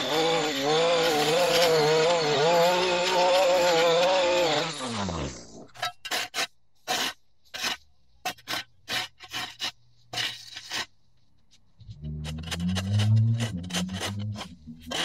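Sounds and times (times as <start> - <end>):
shovel scraping soil off concrete: 1.0 - 10.9, 12.1 - 15.0.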